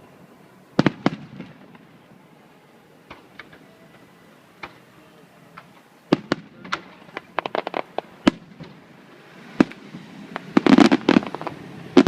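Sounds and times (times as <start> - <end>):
fireworks bursting with sharp bangs: 0.7 - 12.0.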